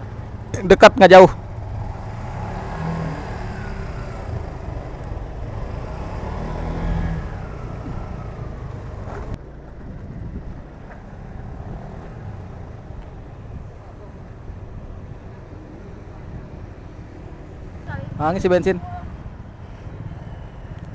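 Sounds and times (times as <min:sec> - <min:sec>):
road noise: 0:00.0 - 0:20.9.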